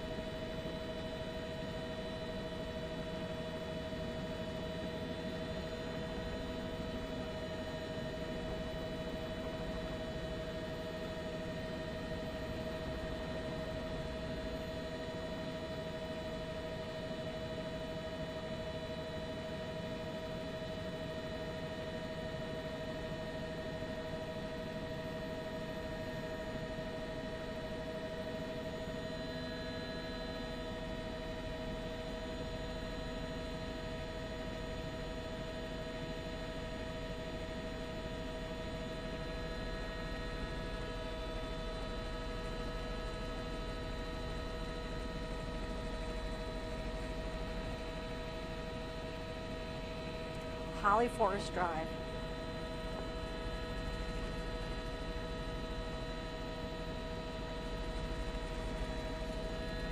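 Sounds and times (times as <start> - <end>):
helicopter cabin drone: 0.0 - 59.9.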